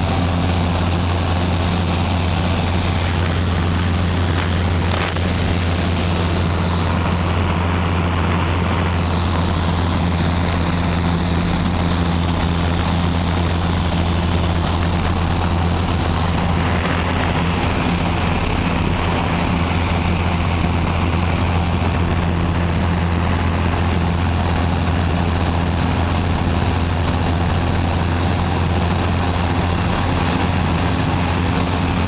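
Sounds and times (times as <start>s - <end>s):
airplane engine drone in cabin: 0.0s - 32.0s.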